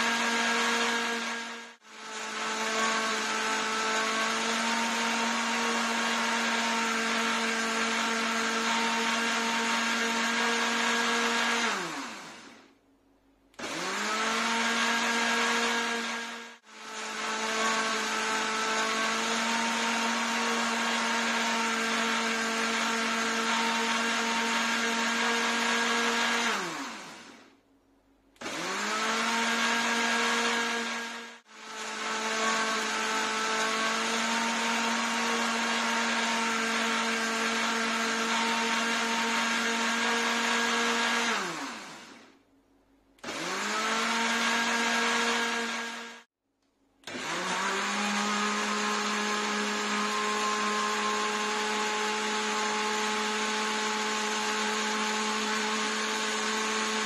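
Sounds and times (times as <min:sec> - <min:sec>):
mixer grinder motor running: 0:00.0 - 0:12.8, 0:13.5 - 0:27.6, 0:28.3 - 0:42.5, 0:43.2 - 0:46.3, 0:47.0 - 0:57.0.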